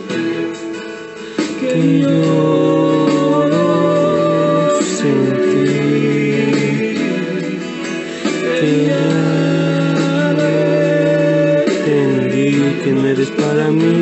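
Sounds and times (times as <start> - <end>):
instrumental backing: 0.0 - 14.0
person singing pop ballad: 0.0 - 14.0.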